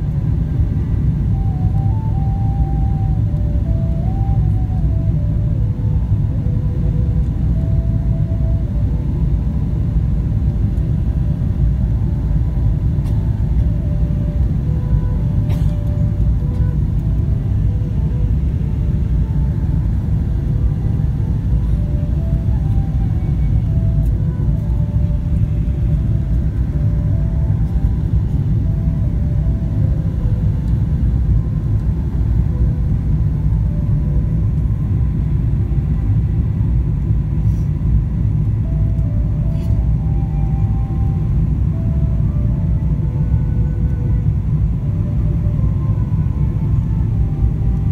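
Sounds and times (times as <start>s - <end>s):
jet engine rumble in cabin: 0.0s - 47.9s.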